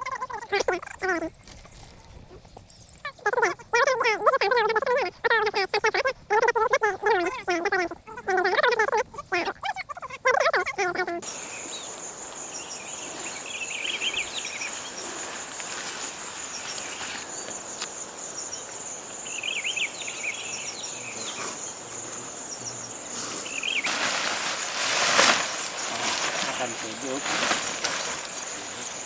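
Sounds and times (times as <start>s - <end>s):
bird chirping: 0.0s - 15.1s, 18.3s - 29.0s
high insect trill: 0.0s - 29.0s.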